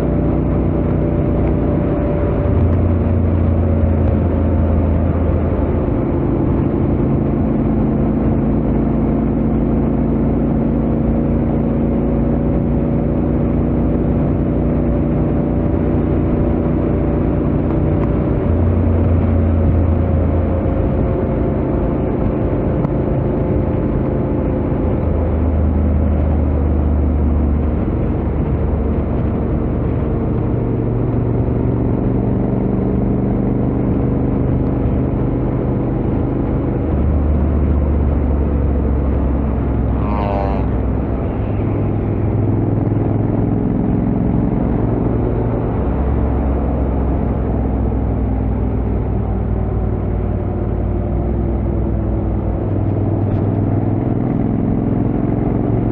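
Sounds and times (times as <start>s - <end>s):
motorcycle engine cruising: 0.0s - 55.9s
wind and road noise: 0.0s - 55.9s.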